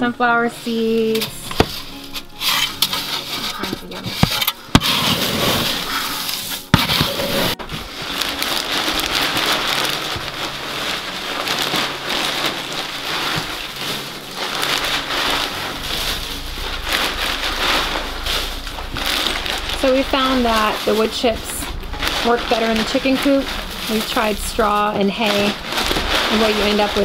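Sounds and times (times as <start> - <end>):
wood shavings rustling: 0.3 - 27.0
plastic scoop digging into feed: 0.7 - 27.0.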